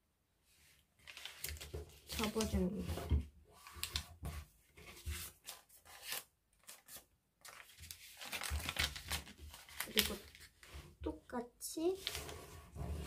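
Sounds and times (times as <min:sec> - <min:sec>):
paper being folded: 0:01.0 - 0:11.2, 0:11.8 - 0:13.0.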